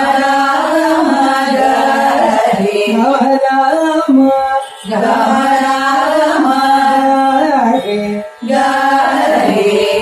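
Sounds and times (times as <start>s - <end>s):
women singing together: 0.0s - 10.0s.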